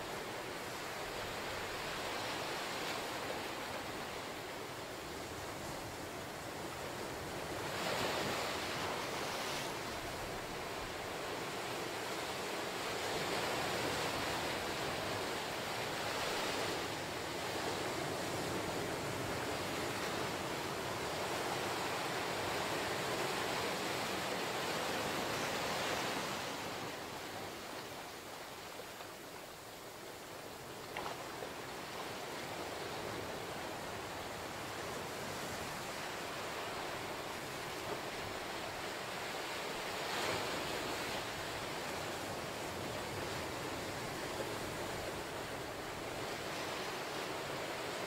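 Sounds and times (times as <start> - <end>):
ocean surf washing up beach: 0.0 - 48.0.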